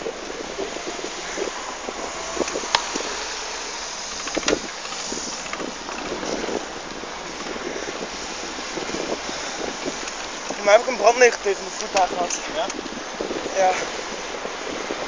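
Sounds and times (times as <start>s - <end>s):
bike tyres on asphalt: 0.0s - 15.0s
wind on microphone: 0.0s - 15.0s.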